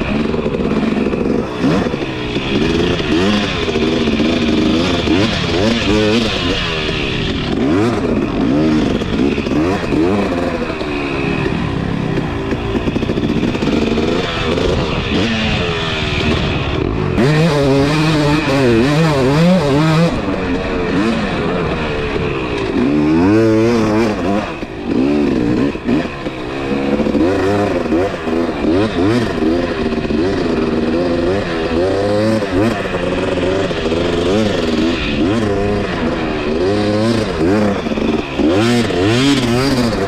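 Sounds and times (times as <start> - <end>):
two-stroke dirt bike engine revving: 0.0 - 40.0.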